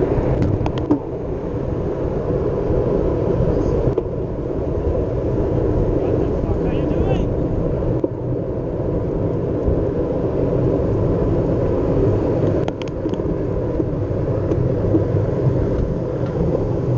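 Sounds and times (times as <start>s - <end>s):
wind rumble on microphone: 0.0s - 16.9s.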